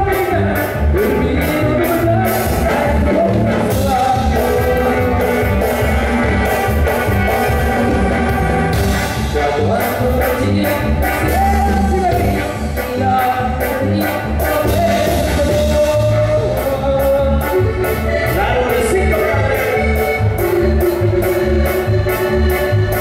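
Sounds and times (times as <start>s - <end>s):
person singing: 0.0s - 8.4s, 9.0s - 23.0s
latin band music over pa: 0.0s - 23.0s.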